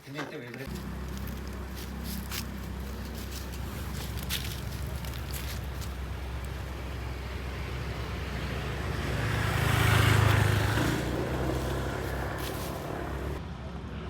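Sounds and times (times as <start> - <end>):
vehicle passing by: 0.7 - 14.0.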